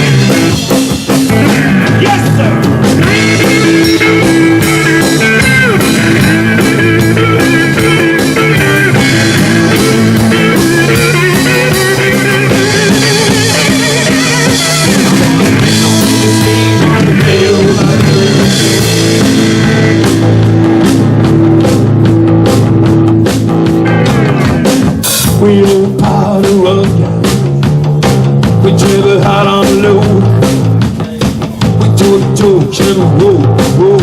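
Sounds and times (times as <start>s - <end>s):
electric guitar bending notes: 0.0s - 30.9s
bass low end: 0.0s - 34.0s
drum kit: 0.0s - 34.0s.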